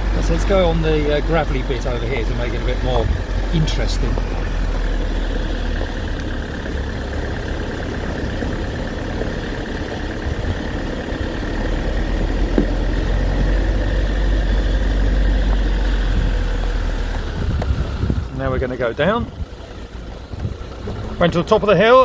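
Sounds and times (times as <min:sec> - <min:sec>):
car engine rumbling at low revs: 0:00.0 - 0:22.0.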